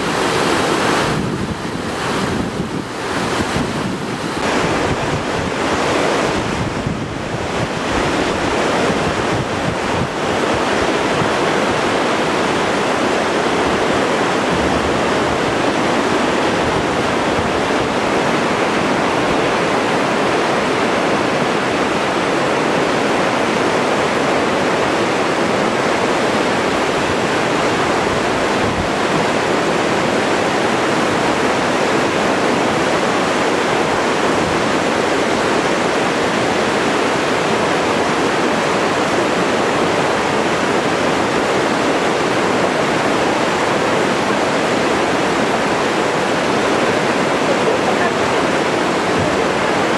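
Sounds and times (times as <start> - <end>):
floodwater rushing over debris: 0.0 - 49.9
wind buffeting microphone: 0.0 - 49.9.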